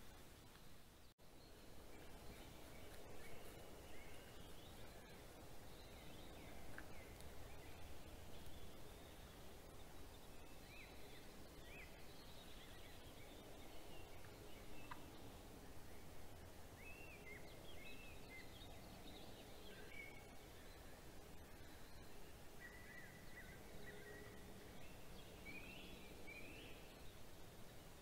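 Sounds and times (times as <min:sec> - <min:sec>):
outdoor background hiss: 0:00.0 - 0:28.0
small birds chirping: 0:00.1 - 0:28.0.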